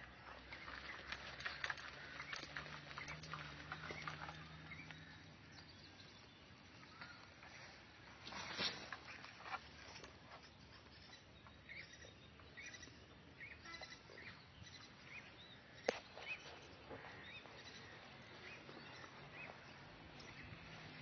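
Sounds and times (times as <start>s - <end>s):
faint bird chirping: 0.0s - 21.0s.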